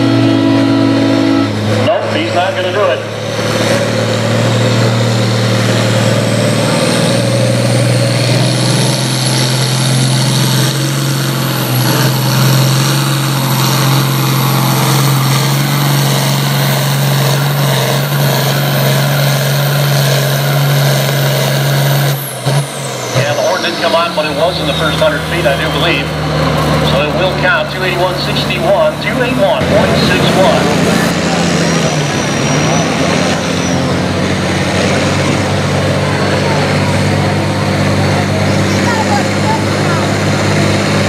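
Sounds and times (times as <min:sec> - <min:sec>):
high turbo whine: 0:00.0 - 0:41.0
tractor diesel engine under load: 0:00.0 - 0:41.0.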